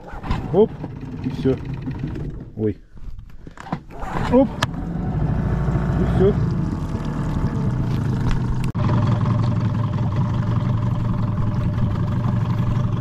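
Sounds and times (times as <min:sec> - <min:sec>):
outboard motor running: 0:00.0 - 0:02.6, 0:03.9 - 0:13.0.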